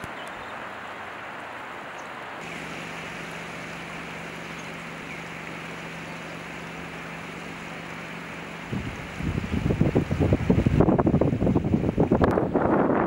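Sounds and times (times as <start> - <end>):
river water rushing: 0.0 - 13.0
steady low hum: 0.0 - 13.0.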